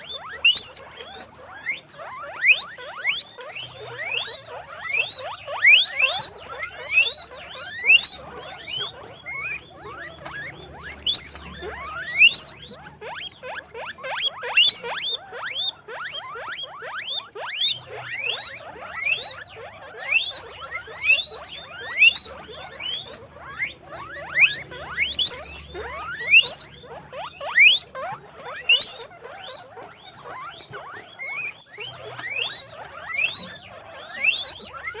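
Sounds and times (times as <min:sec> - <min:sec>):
guinea pigs squealing: 0:00.0 - 0:35.0.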